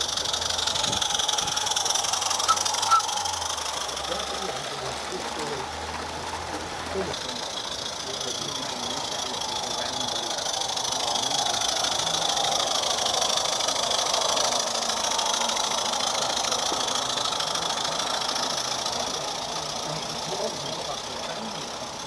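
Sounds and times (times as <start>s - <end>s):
steam locomotive exhaust beat: 0.0s - 22.0s.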